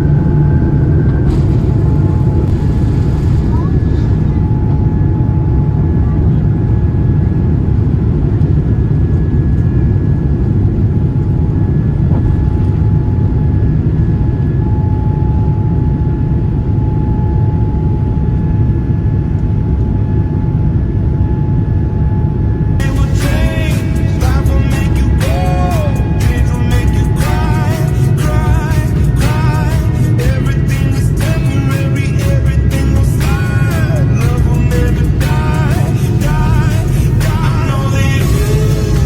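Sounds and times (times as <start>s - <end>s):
faint steady whine: 0.0s - 39.0s
roar of aircraft engines and airflow: 0.0s - 39.0s.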